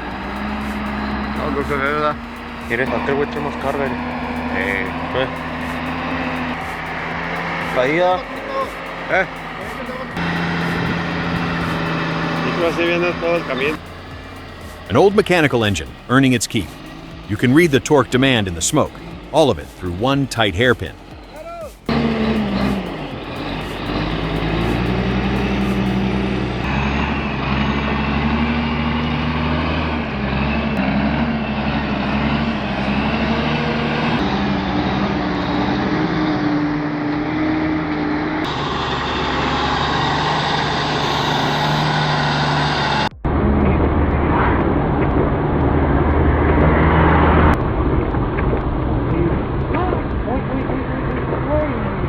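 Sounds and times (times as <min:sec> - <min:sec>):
truck diesel engine labouring: 0:00.0 - 0:52.0.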